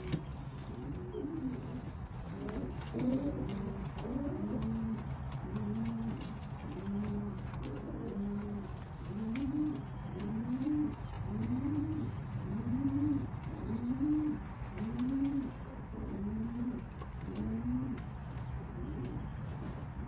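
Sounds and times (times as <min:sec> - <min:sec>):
pigeon cooing: 0:00.0 - 0:20.0.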